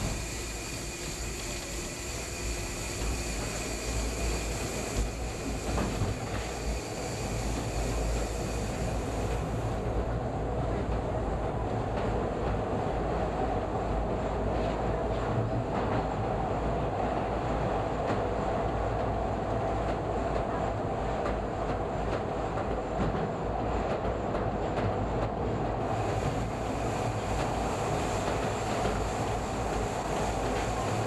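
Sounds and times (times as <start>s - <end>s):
subway train rumbling in tunnel: 0.0s - 31.0s.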